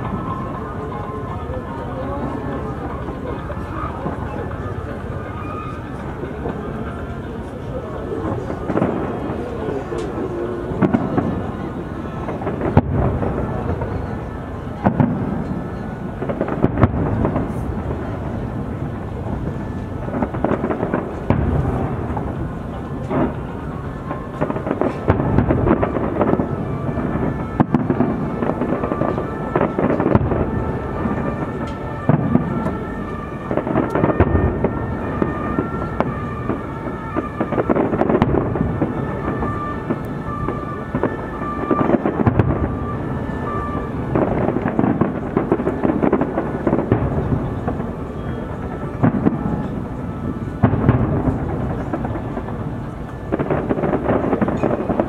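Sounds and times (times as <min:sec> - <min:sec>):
fireworks booming and crackling: 0:00.0 - 0:55.0.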